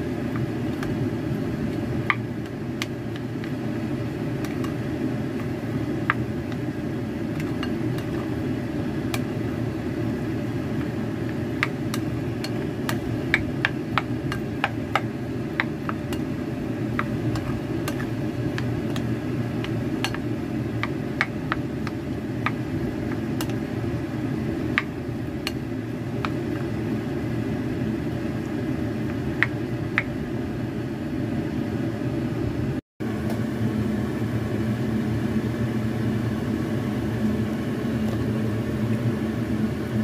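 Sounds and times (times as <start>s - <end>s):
low fan whir: 0.0s - 40.0s.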